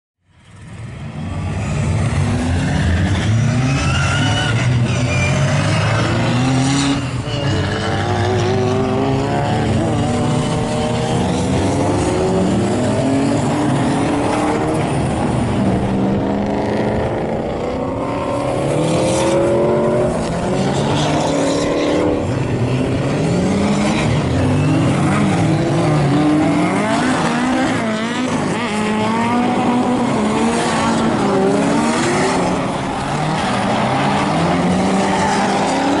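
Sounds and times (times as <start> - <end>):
car engines revving hard: 0.4 - 36.0.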